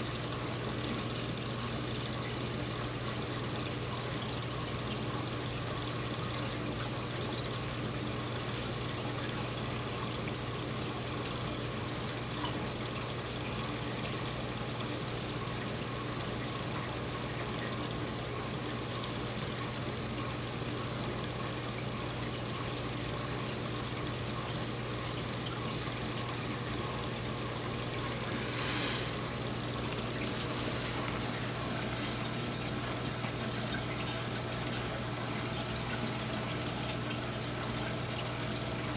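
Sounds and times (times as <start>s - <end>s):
low pump hum: 0.0s - 38.9s
water trickling and pouring: 0.0s - 38.9s.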